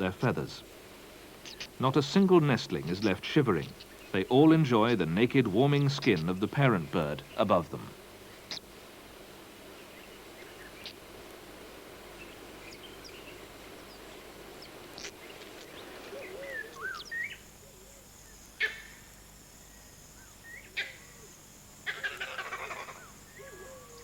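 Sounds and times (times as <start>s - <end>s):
birds chirping: 0.0s - 24.0s
faint background hiss: 0.0s - 24.0s.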